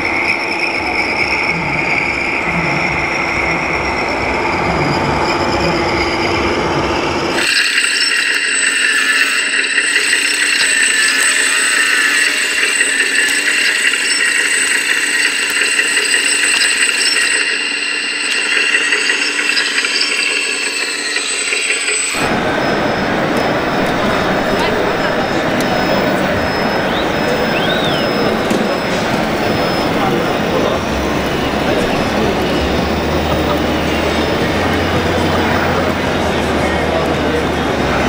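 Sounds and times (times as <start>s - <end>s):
hydraulic pump whine: 0.0s - 38.0s.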